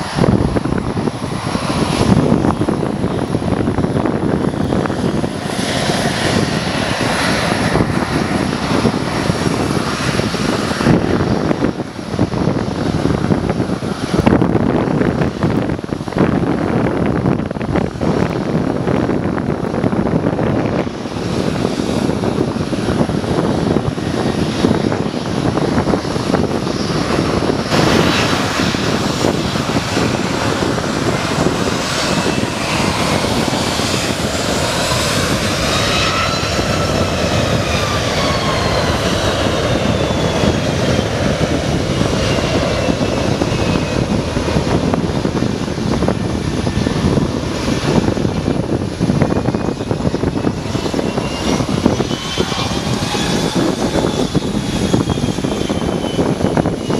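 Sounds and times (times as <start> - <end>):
high jet engine whine: 0.0 - 56.9
jet engines roaring: 0.0 - 56.9.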